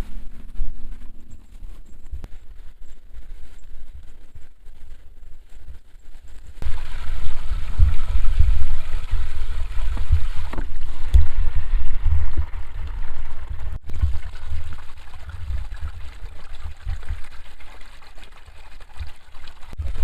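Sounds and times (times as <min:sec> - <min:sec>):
low uneven rumble: 0:00.0 - 0:20.0.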